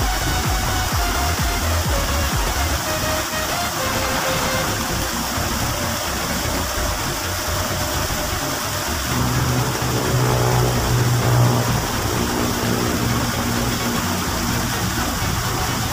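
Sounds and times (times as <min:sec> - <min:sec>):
steady low hum: 0:00.0 - 0:15.9
small waterfall splashing into stream: 0:00.1 - 0:15.9.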